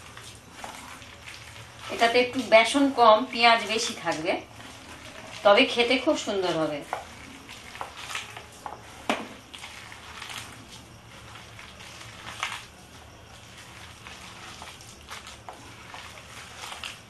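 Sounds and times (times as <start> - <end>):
hand squelching batter: 0.0 - 17.0.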